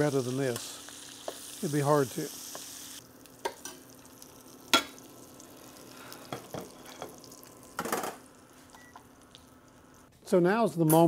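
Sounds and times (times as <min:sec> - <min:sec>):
faint sizzling in skillet: 0:00.0 - 0:10.2.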